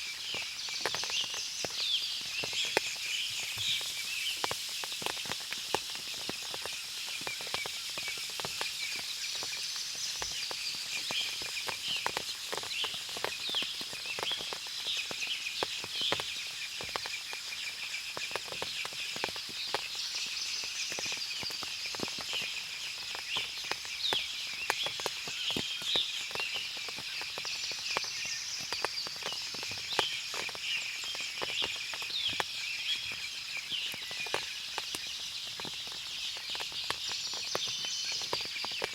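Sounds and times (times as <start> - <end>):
steady high hiss: 0.0 - 38.7
birds chirping: 0.0 - 38.9
water dripping from trees: 0.0 - 38.9.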